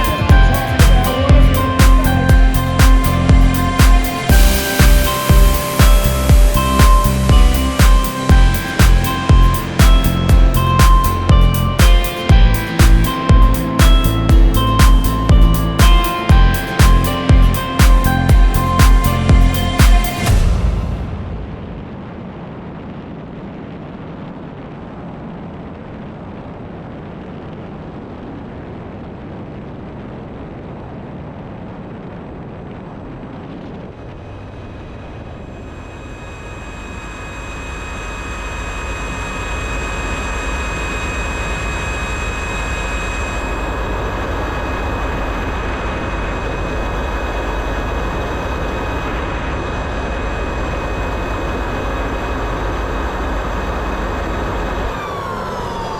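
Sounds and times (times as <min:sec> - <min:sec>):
high turbine whine: 0:00.0 - 0:55.9.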